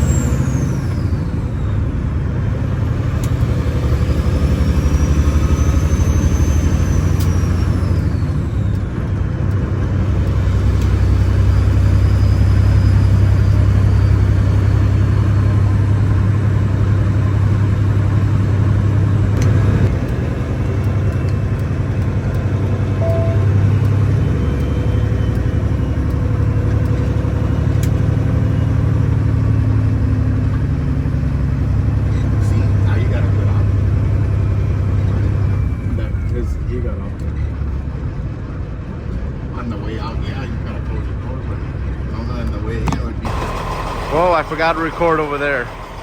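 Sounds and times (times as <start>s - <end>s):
diesel truck engine droning: 0.0s - 46.0s.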